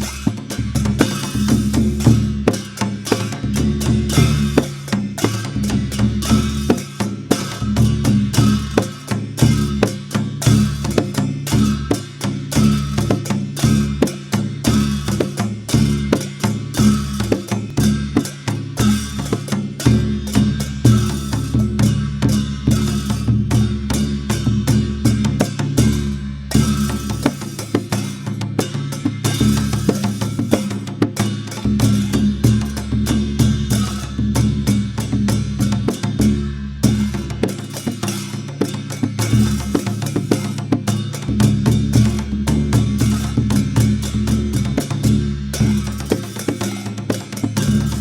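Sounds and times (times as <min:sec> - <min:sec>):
deep ringing bass drum tone: 0:00.0 - 0:46.2
double-headed drum strokes: 0:00.0 - 0:48.0.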